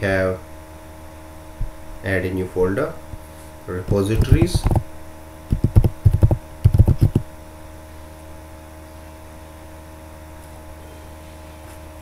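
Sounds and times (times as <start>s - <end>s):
electrical mains hum and hiss: 0.0s - 12.0s.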